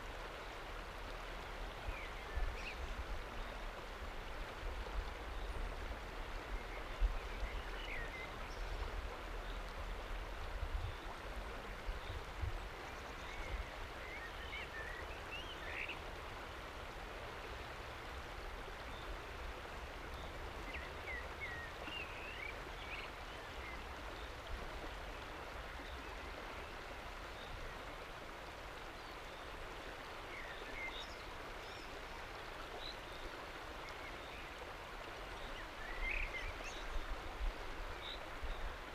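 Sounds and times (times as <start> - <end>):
river water flowing and lapping: 0.0 - 38.9.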